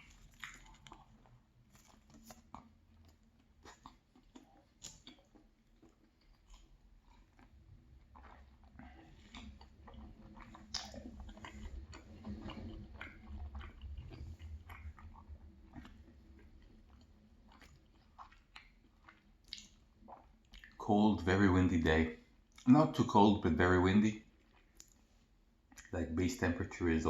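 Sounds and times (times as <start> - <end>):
person chewing pastry: 0.0 - 21.2, 23.6 - 26.0.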